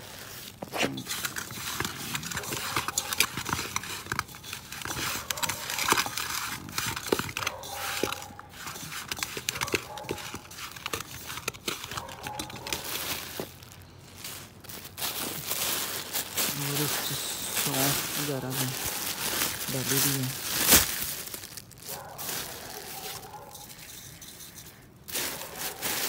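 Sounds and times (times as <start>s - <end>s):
hands squishing raw meat: 0.4s - 23.9s.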